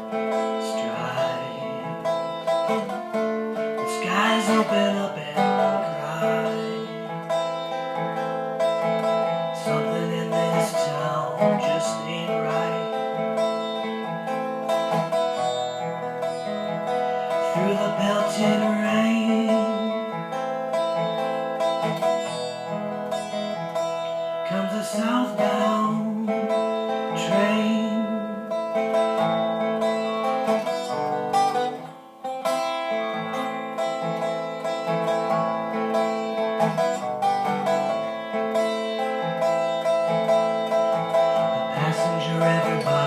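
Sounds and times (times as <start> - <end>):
acoustic guitar playing: 0.0 - 43.0.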